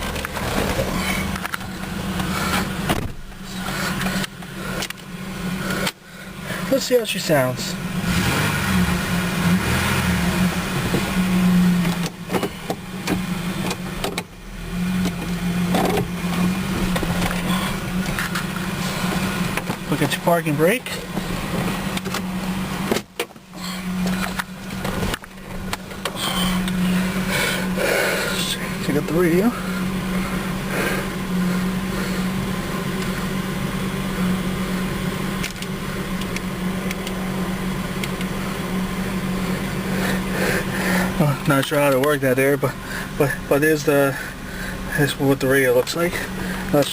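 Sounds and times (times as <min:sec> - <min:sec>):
car engine running: 0:00.0 - 0:46.9.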